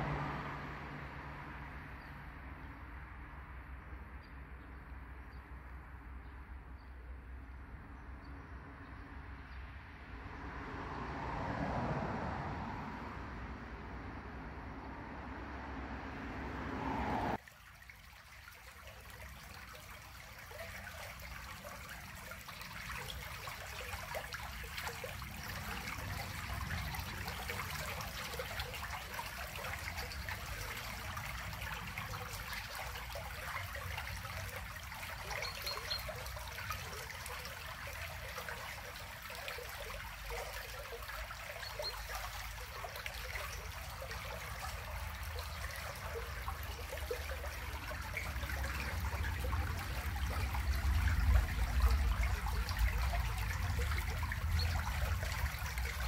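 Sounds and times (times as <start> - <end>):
stream trickling over stones: 0.0 - 9.6, 10.3 - 56.0.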